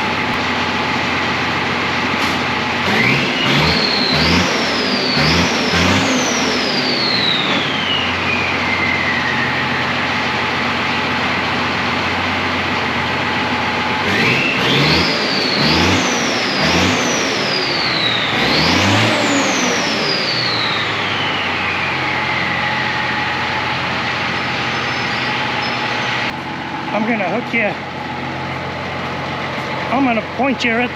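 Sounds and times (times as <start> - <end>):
diesel truck engine revving: 0.0 - 30.9
turbocharger whistle: 2.1 - 27.8.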